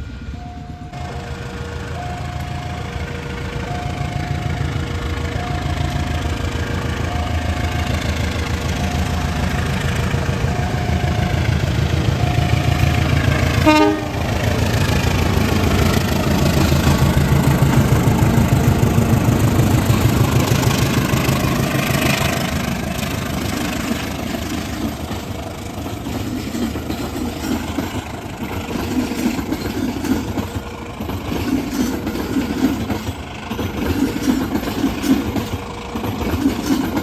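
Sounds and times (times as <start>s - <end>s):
diesel locomotive engine humming: 0.0s - 37.0s.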